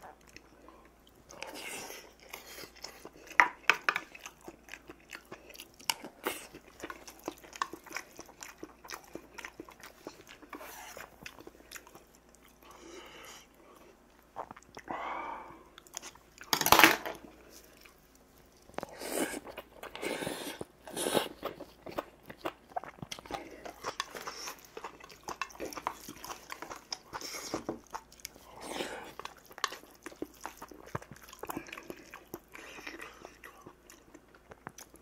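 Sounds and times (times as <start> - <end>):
chewing and munching food: 0.0 - 35.0.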